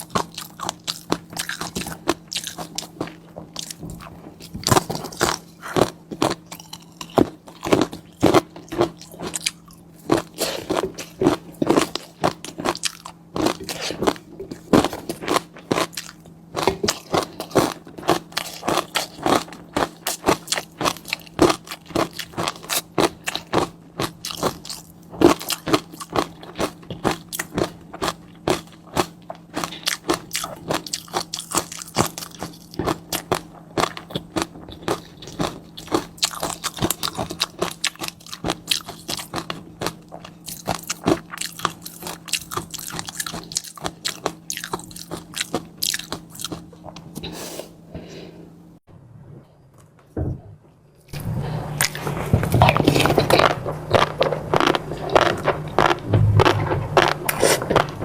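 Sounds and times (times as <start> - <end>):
person chewing crunchy food: 0.0 - 48.4, 51.1 - 58.0
faint steady hum: 0.0 - 58.0.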